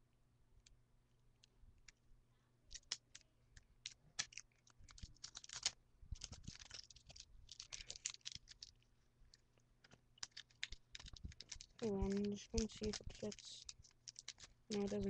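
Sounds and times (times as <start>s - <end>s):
small hard objects clicking: 2.7s - 15.0s.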